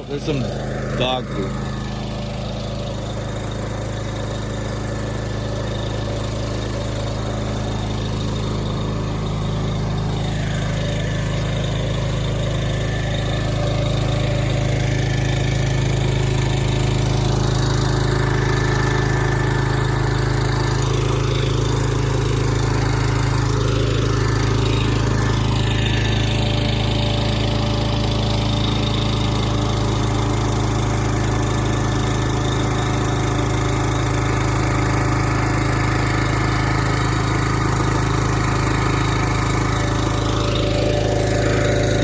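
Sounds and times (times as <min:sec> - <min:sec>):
truck engine humming: 0:00.0 - 0:33.5, 0:38.6 - 0:42.0.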